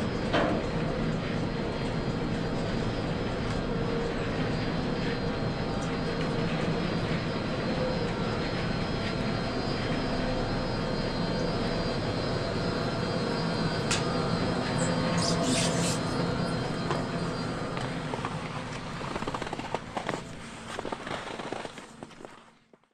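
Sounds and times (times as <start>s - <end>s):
conveyor belt drone: 0.0s - 22.5s.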